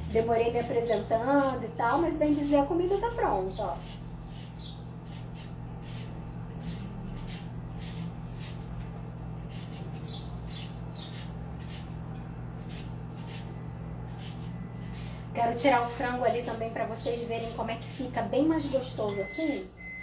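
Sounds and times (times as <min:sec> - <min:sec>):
carrot scraping on grater: 0:00.0 - 0:19.0
steady low hum: 0:00.0 - 0:20.0.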